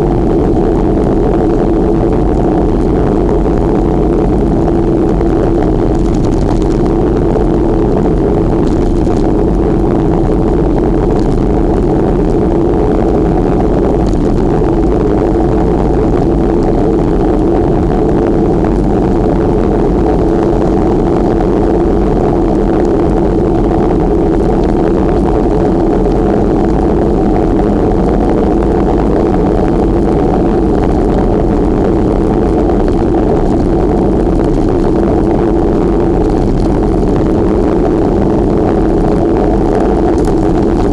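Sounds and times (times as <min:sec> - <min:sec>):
wind and road rushing noise: 0:00.0 - 0:40.9.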